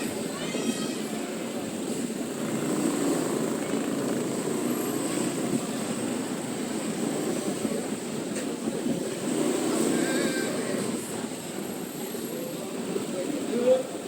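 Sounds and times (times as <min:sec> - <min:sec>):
motor scooter engine drone: 0:00.0 - 0:14.0
road noise: 0:00.0 - 0:14.0.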